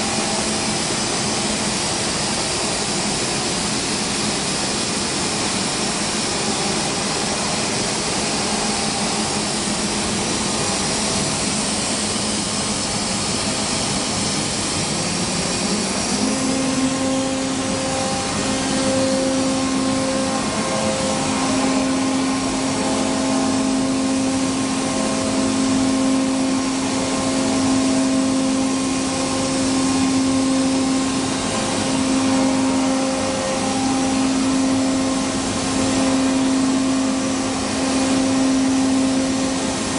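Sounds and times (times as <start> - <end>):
cnc router running: 0.0 - 39.9
high-pitched machine whine: 0.0 - 39.9.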